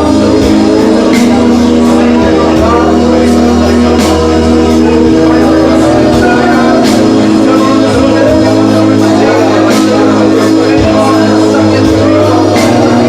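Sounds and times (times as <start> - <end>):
loud music with held chords: 0.0 - 13.0.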